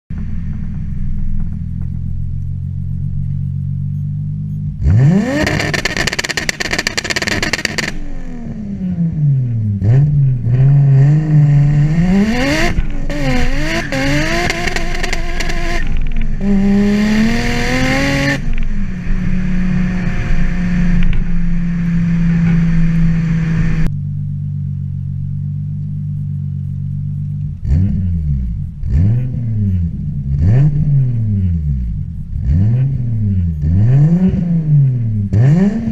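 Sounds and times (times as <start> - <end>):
car engine revving: 0.1 - 35.9.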